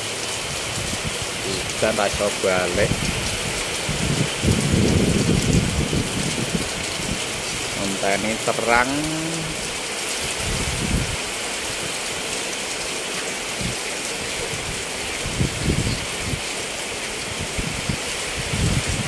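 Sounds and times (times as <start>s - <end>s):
heavy rain on roof: 0.0s - 19.0s.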